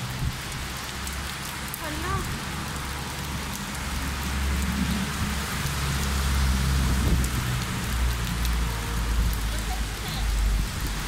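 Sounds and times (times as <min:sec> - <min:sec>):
heavy rain on pavement: 0:00.0 - 0:11.0
vehicles driving on wet road: 0:00.0 - 0:11.0.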